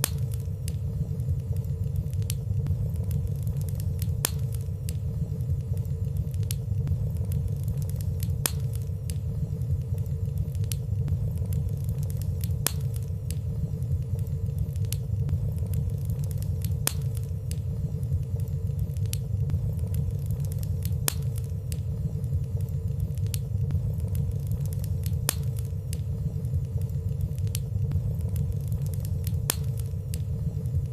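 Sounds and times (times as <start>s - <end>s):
fireplace fire crackling: 0.0s - 30.9s.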